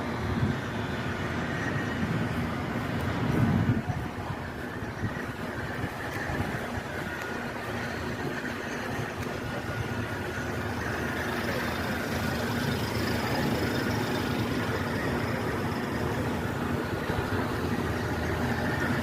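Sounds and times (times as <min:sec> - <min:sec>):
rumble of vehicle traffic: 0:00.0 - 0:19.0.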